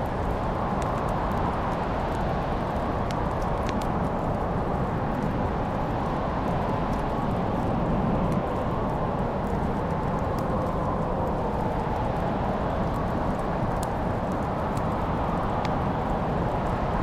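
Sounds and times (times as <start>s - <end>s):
crackling wood fire: 0.0s - 17.0s.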